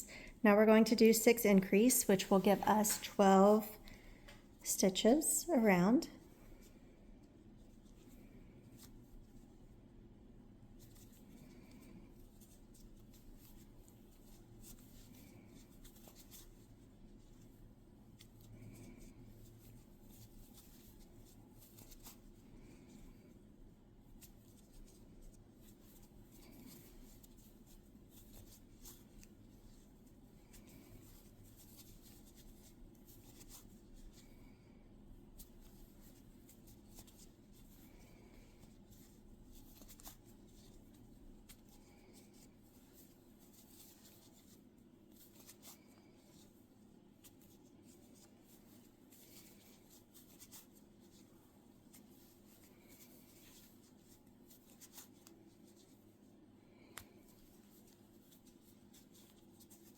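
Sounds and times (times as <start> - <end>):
yarn rustling: 0.0 - 9.7, 10.6 - 59.9
low room hum: 0.0 - 59.9.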